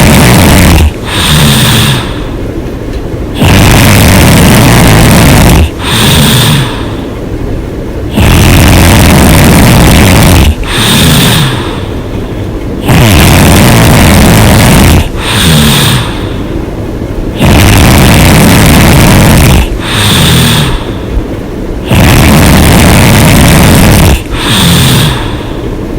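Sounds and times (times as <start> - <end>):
woman snoring loudly: 0.0 - 2.4, 3.4 - 7.0, 8.1 - 12.0, 12.8 - 16.4, 17.4 - 21.0, 21.8 - 25.6
rattling breaths: 0.0 - 25.9.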